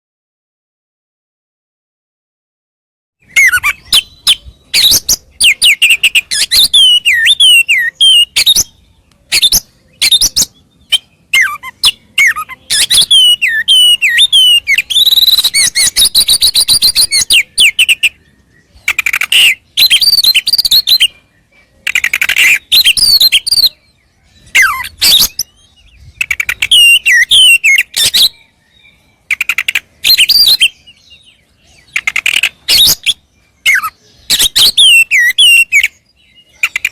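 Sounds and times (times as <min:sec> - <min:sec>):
bird singing whistles and chatter: 0:03.2 - 0:36.9.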